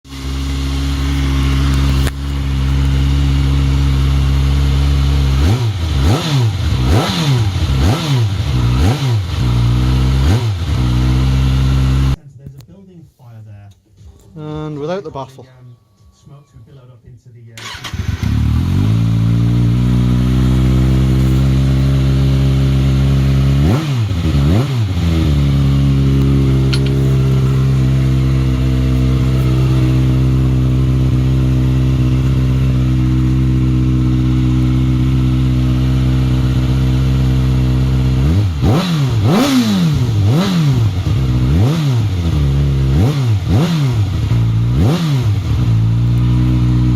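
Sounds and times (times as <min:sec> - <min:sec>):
motorcycle engine revving: 0:00.0 - 0:12.2, 0:17.6 - 0:46.9
motorcycle engine idling: 0:00.1 - 0:12.2, 0:17.6 - 0:46.9.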